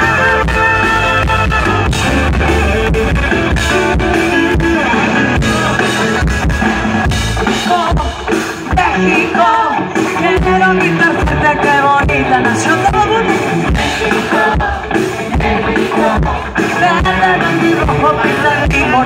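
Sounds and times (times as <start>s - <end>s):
live band playing pop music: 0.0s - 19.0s
steady drum beat: 0.0s - 19.0s.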